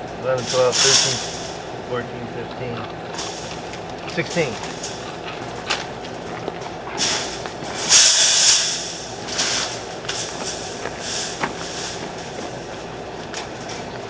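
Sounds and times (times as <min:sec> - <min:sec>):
wire mesh scraping and rattling: 0:00.0 - 0:14.0.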